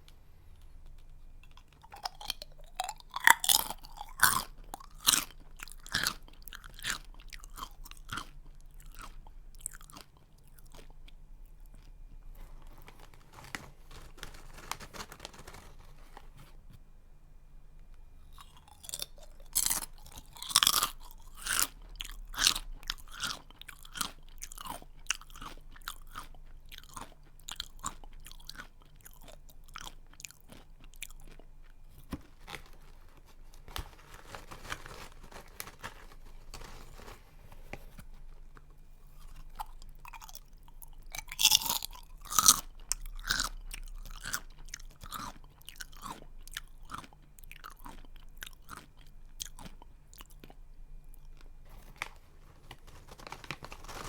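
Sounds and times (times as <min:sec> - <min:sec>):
person chewing crunchy snack: 0:00.0 - 0:15.7, 0:18.3 - 0:37.1, 0:38.5 - 0:52.0.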